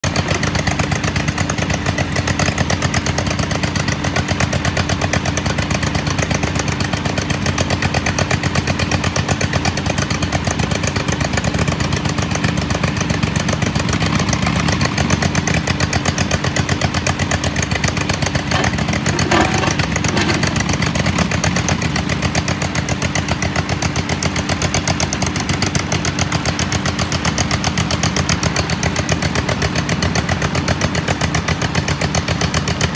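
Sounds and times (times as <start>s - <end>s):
small engine with pulsing exhaust: 0.0s - 32.9s.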